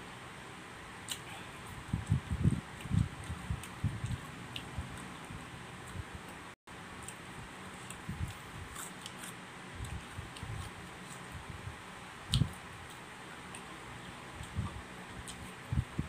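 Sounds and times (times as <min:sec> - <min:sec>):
low room hum: 0:00.0 - 0:16.0
person chewing fruit: 0:01.0 - 0:06.4, 0:07.0 - 0:11.4, 0:12.3 - 0:15.6.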